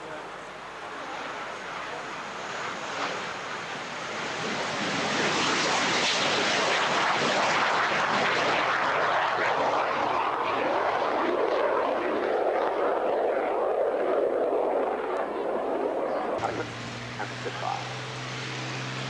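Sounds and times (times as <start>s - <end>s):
jet roaring at takeoff: 0.0s - 19.0s.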